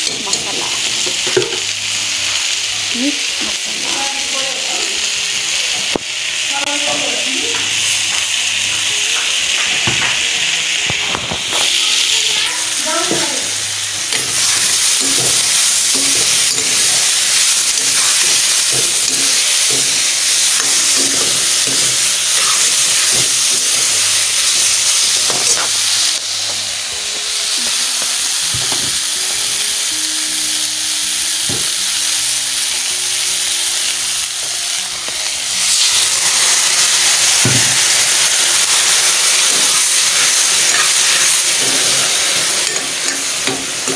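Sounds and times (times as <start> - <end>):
food sizzling in hot oil: 0.0 - 43.9.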